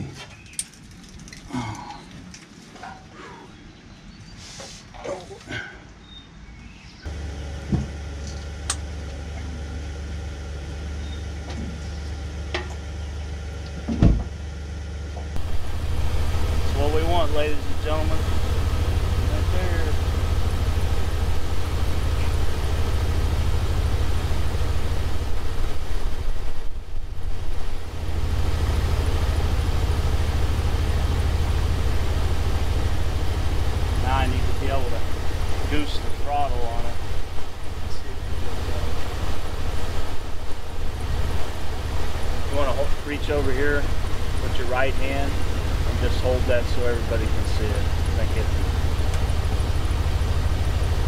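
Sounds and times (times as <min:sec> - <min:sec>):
truck engine idling: 0:07.1 - 0:51.0.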